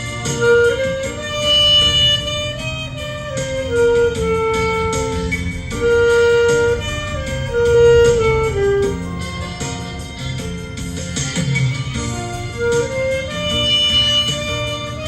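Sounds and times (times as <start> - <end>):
backing track with steady beat: 0.0 - 15.0
melody instrument holding notes: 0.0 - 15.0.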